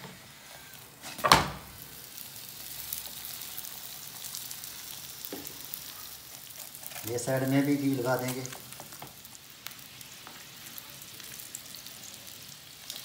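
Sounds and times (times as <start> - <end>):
flatbread sizzling in oil: 0.0 - 13.0.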